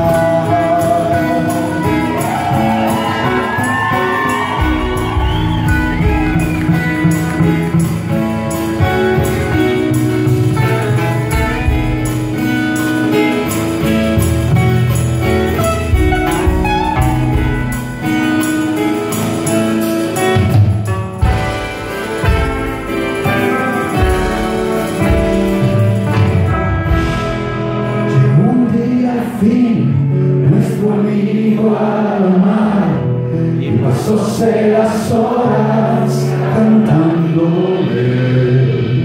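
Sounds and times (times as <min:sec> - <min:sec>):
live band playing: 0:00.0 - 0:39.0.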